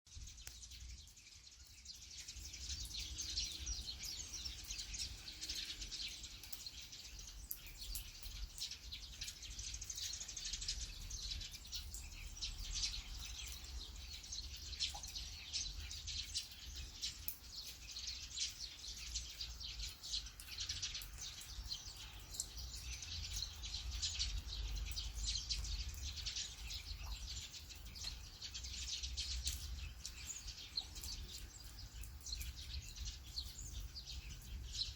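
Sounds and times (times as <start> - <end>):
steady rain pattering: 0.1 - 34.9.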